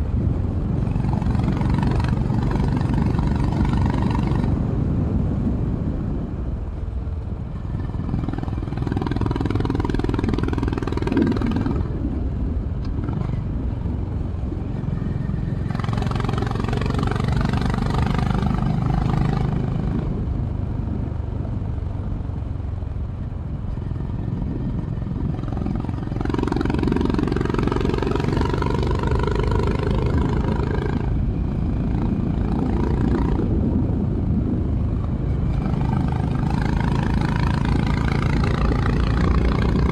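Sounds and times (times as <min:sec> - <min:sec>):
motorcycle engine: 0:00.0 - 0:05.6, 0:06.8 - 0:39.9
low wind rumble: 0:00.0 - 0:39.9.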